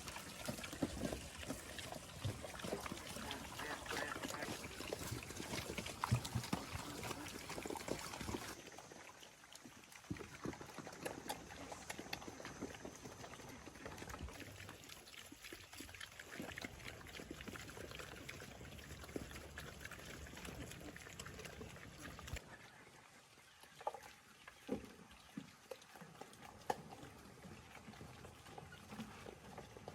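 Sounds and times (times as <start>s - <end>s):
pigs chewing and slurping: 0.0s - 29.9s.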